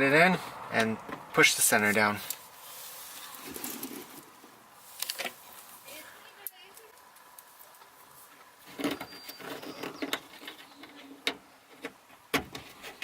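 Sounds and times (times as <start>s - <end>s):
handling and rustling: 1.8s - 13.0s.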